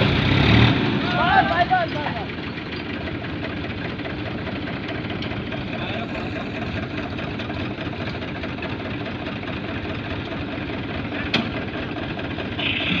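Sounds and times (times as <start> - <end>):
tractor engines idling: 0.0 - 13.0.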